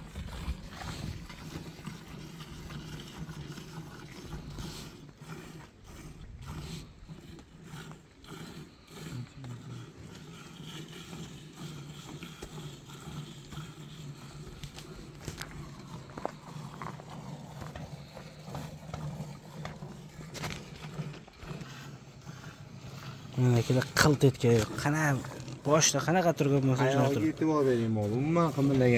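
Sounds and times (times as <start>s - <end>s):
milk squirting into metal pail: 0.0s - 28.9s
steady low hum: 0.0s - 28.9s.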